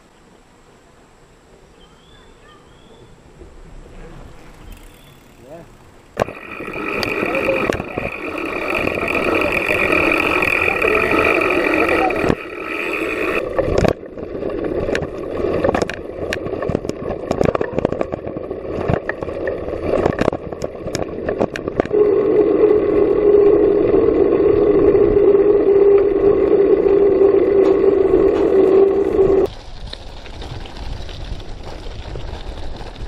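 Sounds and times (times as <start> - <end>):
tyres humming on asphalt: 0.0 - 33.0
bike rattling on dirt trail: 2.7 - 33.0.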